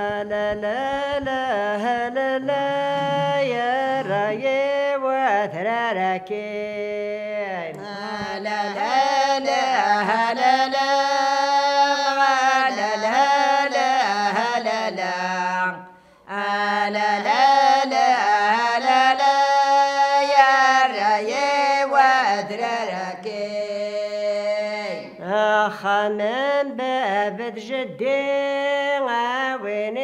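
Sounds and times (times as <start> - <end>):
women singing unaccompanied chant: 0.0 - 30.0.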